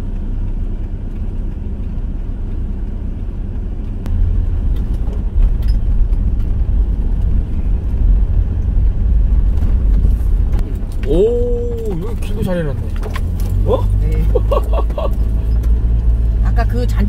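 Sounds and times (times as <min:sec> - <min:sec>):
van driving low rumble: 0:00.0 - 0:17.0.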